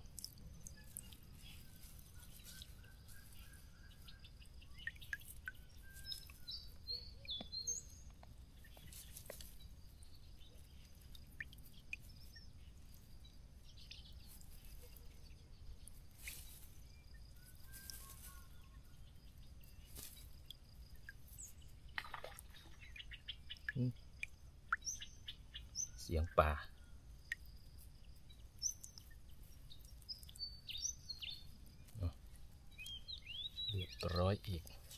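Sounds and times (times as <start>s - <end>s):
wet net rustling and dripping: 0.0s - 25.8s, 27.2s - 34.9s
small birds chirping: 0.0s - 34.9s.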